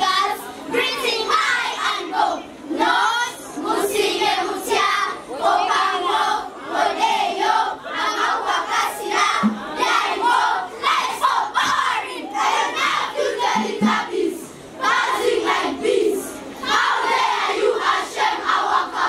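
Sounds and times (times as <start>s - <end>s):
children chanting in unison: 0.0s - 19.0s.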